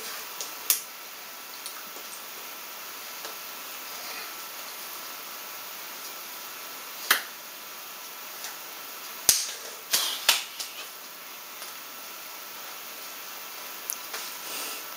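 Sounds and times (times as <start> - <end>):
steady background hiss: 0.0 - 14.9.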